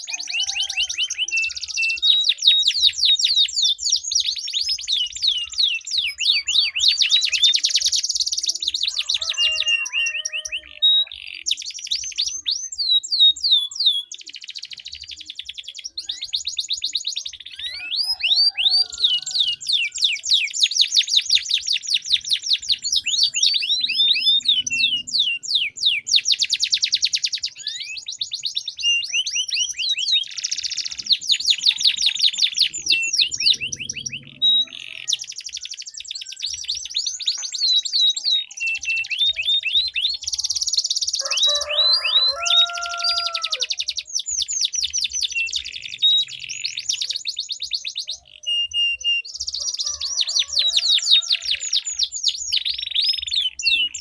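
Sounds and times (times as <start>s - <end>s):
canaries trilling: 0.0s - 54.0s
low steady bird call: 0.0s - 54.0s.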